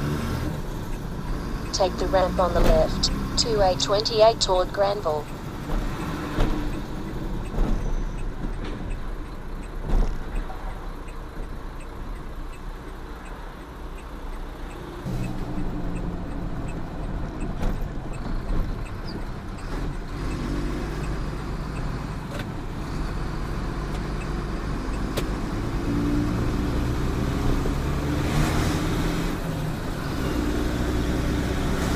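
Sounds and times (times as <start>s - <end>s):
truck engine rumble: 0.0s - 31.9s.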